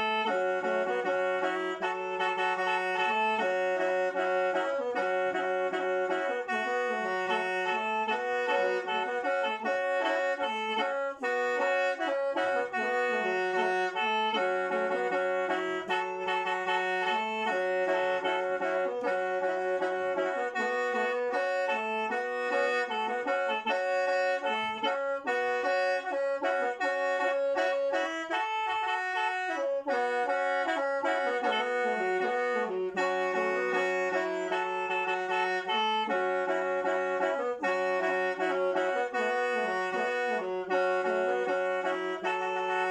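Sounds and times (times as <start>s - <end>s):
bamboo mouth organ playing: 0.0s - 42.9s.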